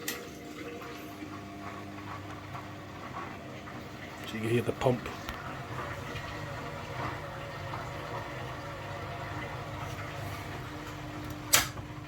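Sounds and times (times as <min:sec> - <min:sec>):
washing machine drain pump humming: 0:00.0 - 0:12.0.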